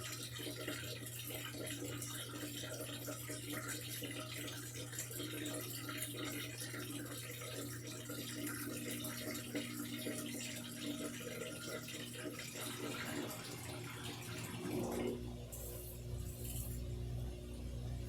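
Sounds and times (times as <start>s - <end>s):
water splashing in washing machine: 0.0s - 16.5s
washing machine hum: 0.0s - 18.0s.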